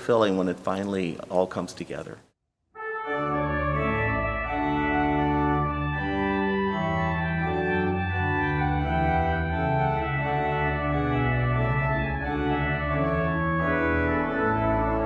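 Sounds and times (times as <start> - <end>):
pipe organ chords: 2.8 - 15.0.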